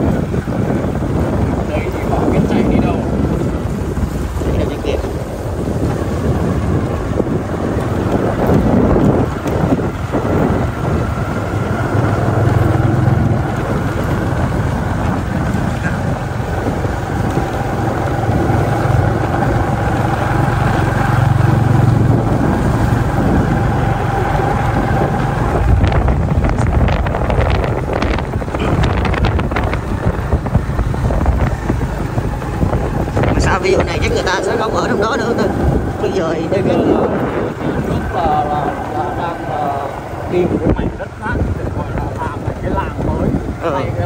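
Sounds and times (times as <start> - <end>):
bike knocking and rattling: 0.0 - 34.7, 38.8 - 44.0
motorbike engine running: 0.0 - 44.0
wind buffeting microphone: 0.0 - 44.0.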